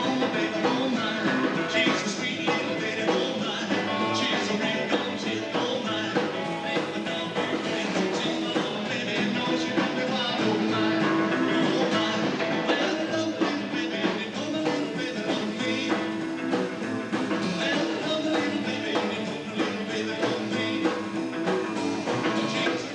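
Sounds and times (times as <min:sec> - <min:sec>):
rock and roll band playing: 0:00.0 - 0:22.9.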